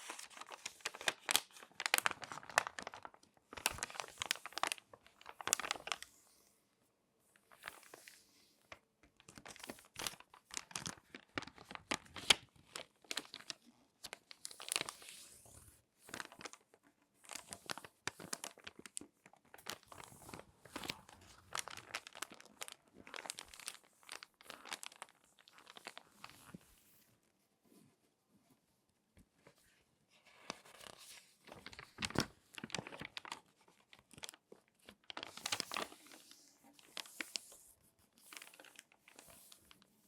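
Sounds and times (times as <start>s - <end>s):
magazine pages crinkling: 0.0s - 6.2s, 9.2s - 26.7s, 30.2s - 40.0s.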